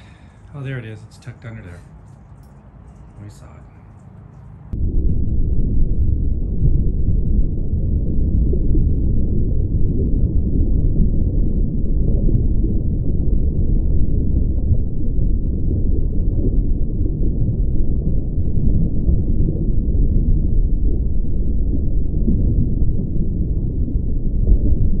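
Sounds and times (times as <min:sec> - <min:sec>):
deep muffled rumbling: 0:00.0 - 0:25.0.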